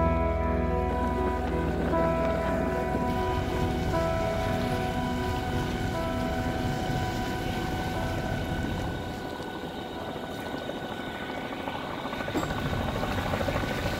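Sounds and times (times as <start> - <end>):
helicopter rotor drone: 0.0 - 13.9
wind: 0.0 - 13.9
water rushing: 0.1 - 13.9.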